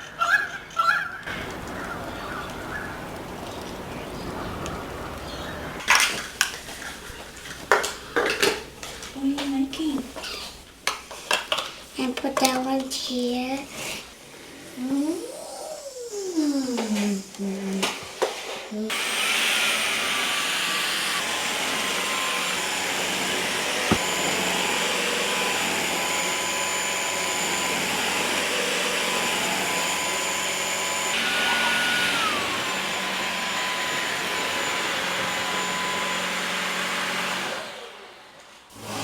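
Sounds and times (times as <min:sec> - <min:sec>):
vacuum cleaner running: 0:01.2 - 0:10.4, 0:15.3 - 0:39.0.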